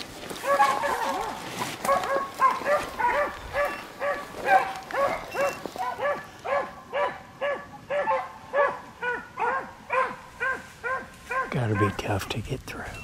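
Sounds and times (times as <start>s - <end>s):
hound barking: 0.3s - 12.2s
hounds baying high: 0.3s - 12.2s.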